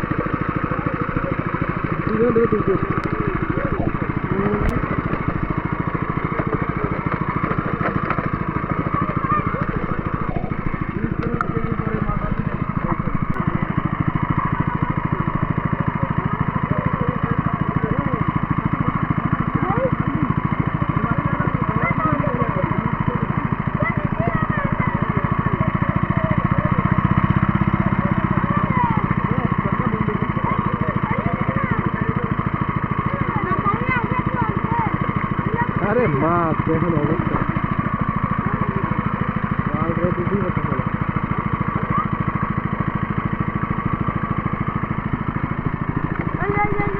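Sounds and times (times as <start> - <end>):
small engine chugging: 0.0 - 46.9.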